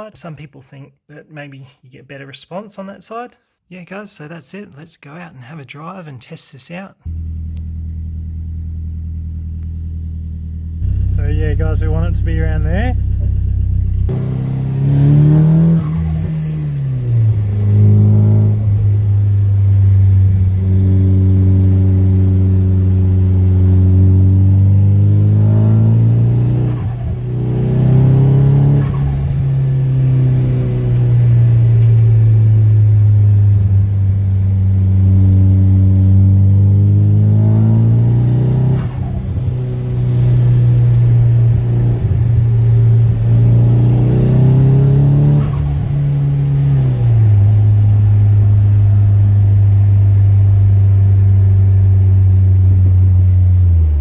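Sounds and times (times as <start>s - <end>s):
car engine under load: 7.1s - 54.0s.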